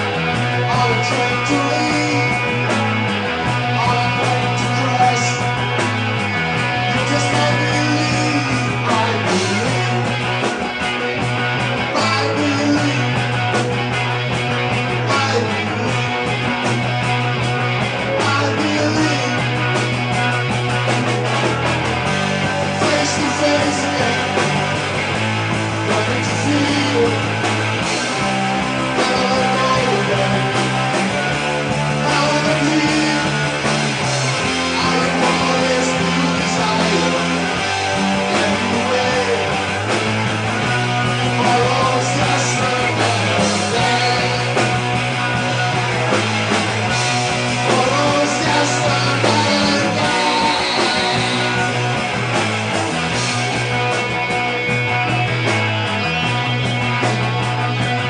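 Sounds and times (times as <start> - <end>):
drums and cymbals: 0.0 - 58.0
electric bass line: 0.0 - 58.0
electric guitars: 0.0 - 58.0.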